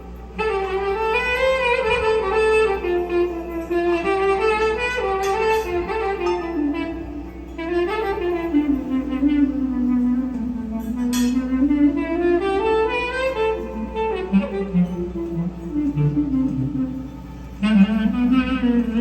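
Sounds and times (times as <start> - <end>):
low steady hum: 0.0 - 19.0
woodwind playing slow melody: 0.0 - 19.0.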